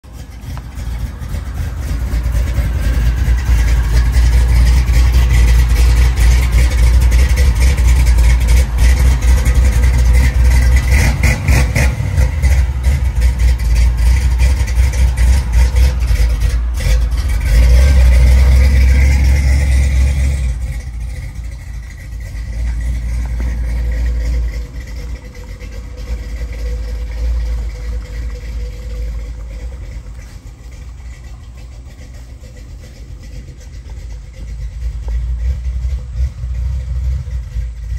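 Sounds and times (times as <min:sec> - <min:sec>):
pickup truck engine driving off: 0:00.0 - 0:37.9.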